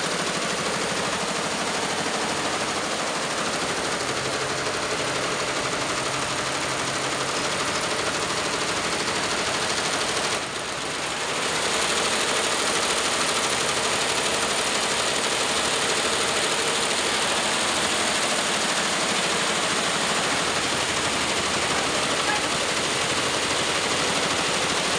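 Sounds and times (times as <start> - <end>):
embroidery machine rattling: 0.0 - 24.9.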